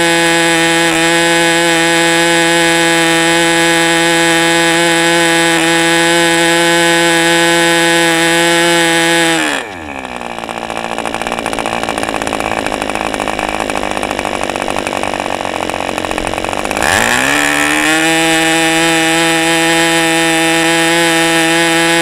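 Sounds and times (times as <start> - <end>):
model airplane engine at high revs: 0.0 - 22.0.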